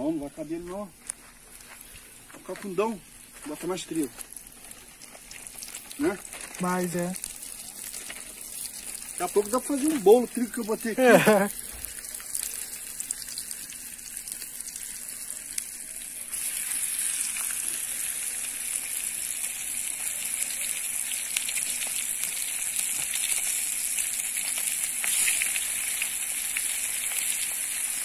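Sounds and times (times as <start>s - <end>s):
fish frying in hot oil: 2.4s - 28.0s.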